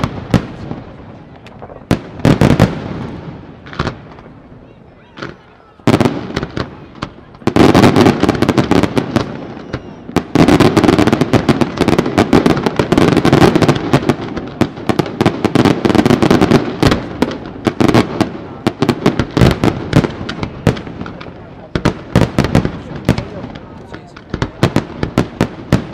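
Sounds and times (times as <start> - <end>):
fireworks bangs and crackle: 0.0 - 25.9.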